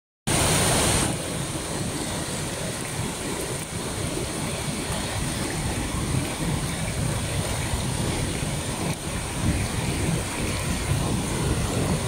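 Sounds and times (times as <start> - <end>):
waterfall roaring into pool: 0.3 - 12.0.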